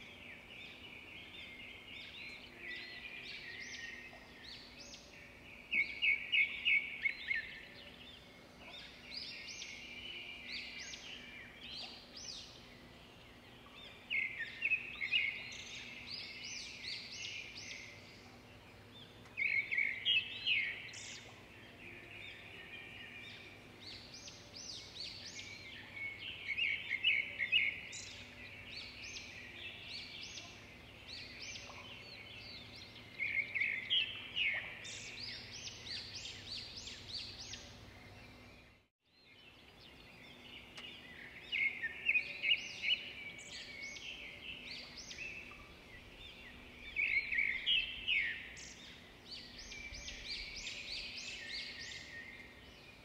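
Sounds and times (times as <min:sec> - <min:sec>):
many birds chirping: 0:00.0 - 0:53.0.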